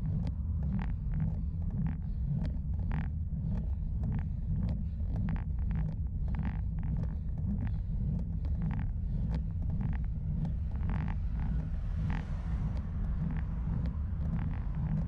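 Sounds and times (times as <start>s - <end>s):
bicycle road rumble: 0.0s - 15.0s.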